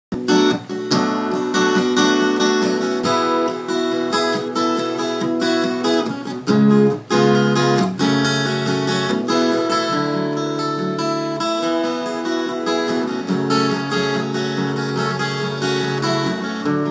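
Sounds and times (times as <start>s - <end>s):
acoustic guitar strumming: 0.1s - 16.9s.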